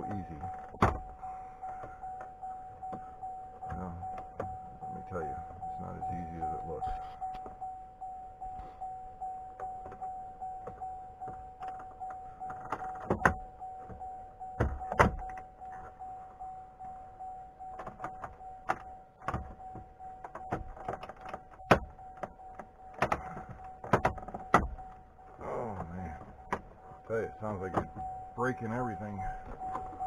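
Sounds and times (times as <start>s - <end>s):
steady warning chime: 0.0s - 30.0s.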